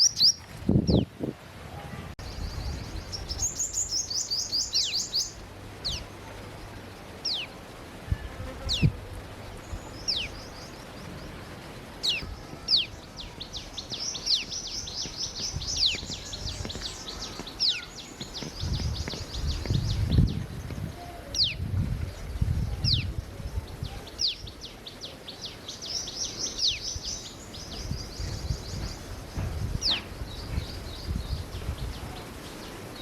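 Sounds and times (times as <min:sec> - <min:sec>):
birds twittering trills: 0:00.0 - 0:01.1, 0:02.2 - 0:33.0.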